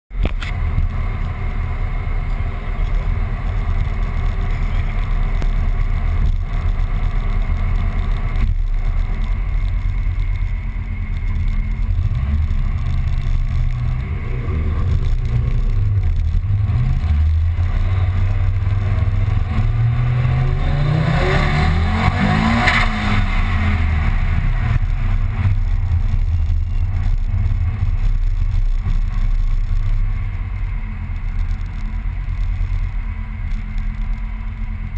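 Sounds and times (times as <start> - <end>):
road noise in car cabin: 0.1 - 34.9
car engine accelerating: 0.2 - 34.9.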